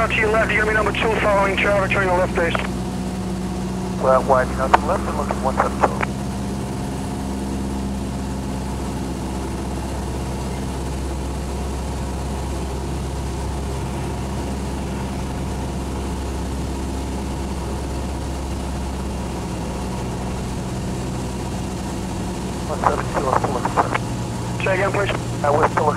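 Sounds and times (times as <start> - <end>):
airplane engine and propeller drone: 0.0 - 25.9.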